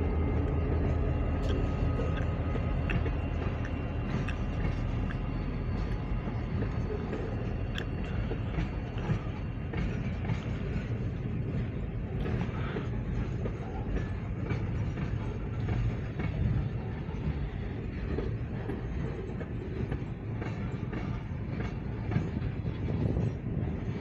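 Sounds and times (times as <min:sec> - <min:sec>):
freight train rumbling past: 0:00.0 - 0:24.0
wheels clicking over rail joints: 0:00.4 - 0:24.0.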